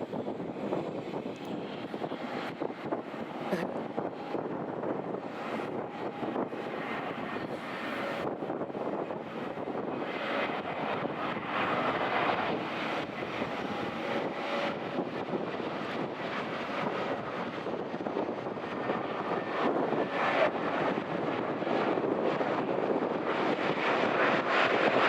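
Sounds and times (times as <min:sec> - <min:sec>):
faint engine whine: 0:00.0 - 0:25.0
jet airliner engines: 0:00.0 - 0:25.0.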